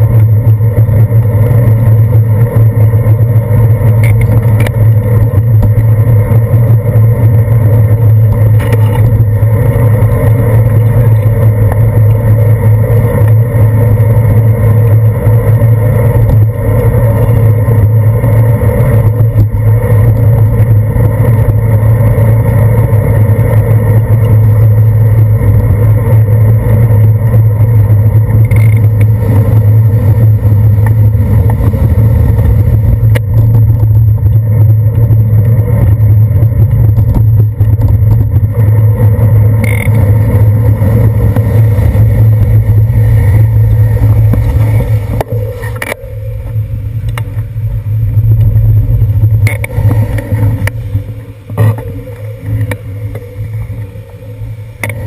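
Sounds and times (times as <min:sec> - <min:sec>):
passing car traffic: 0:00.0 - 0:55.0
wind and road rumble: 0:00.0 - 0:55.0.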